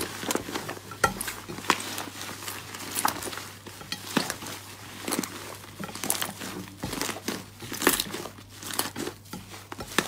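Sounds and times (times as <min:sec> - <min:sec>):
slime squelching: 0:00.0 - 0:10.0.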